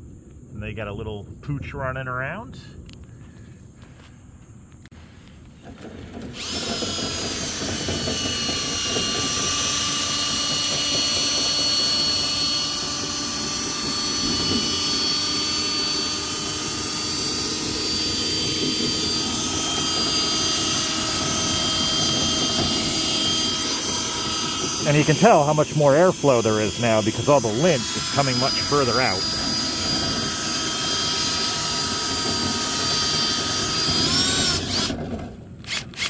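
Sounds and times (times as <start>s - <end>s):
electric motor whining: 6.1s - 36.0s.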